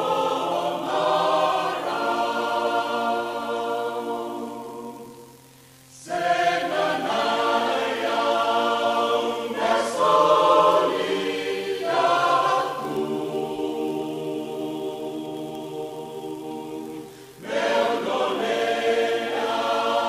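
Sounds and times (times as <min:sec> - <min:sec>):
choir singing in harmony: 0:00.0 - 0:20.0.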